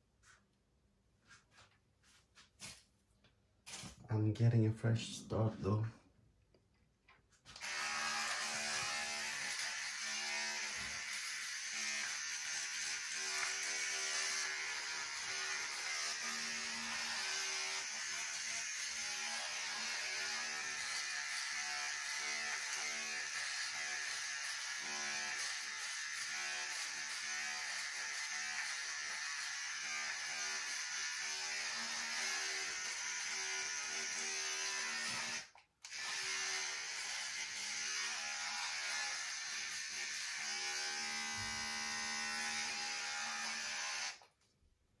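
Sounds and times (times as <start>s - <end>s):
electric hair clippers buzzing: 7.6s - 44.3s.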